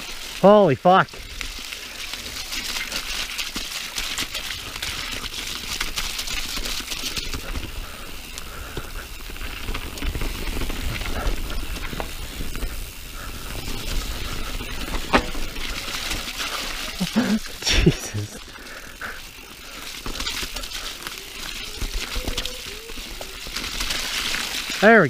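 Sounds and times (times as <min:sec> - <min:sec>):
bike clicking and rattling: 0:00.0 - 0:25.0
bike tyres crackling on dirt: 0:00.0 - 0:25.0.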